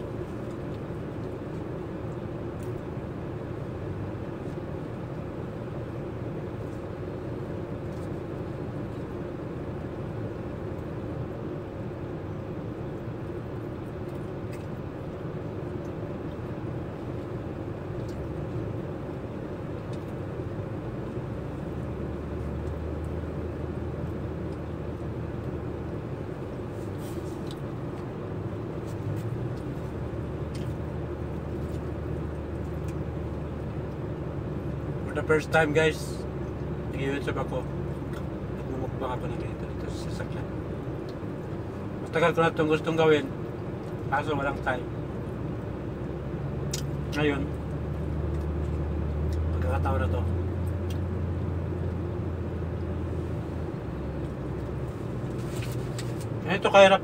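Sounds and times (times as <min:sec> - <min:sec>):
air conditioning running: 0:00.0 - 0:57.0.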